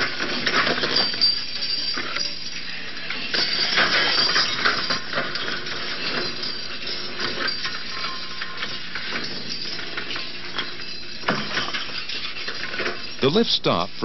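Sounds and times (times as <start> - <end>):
metal clattering and banging: 0.0 - 13.3.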